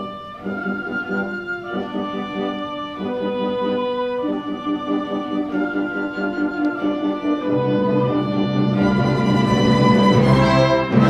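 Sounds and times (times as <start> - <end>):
orchestral music: 0.0 - 11.0.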